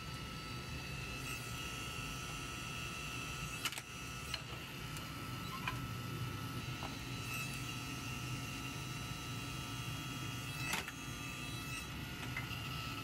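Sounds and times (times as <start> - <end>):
log splitter motor humming: 0.0 - 13.0.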